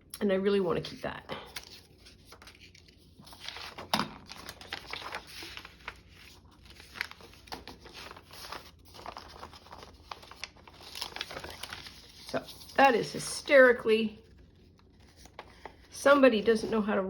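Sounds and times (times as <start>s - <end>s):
paper rustling and crinkling: 1.4s - 13.5s, 14.2s - 16.8s.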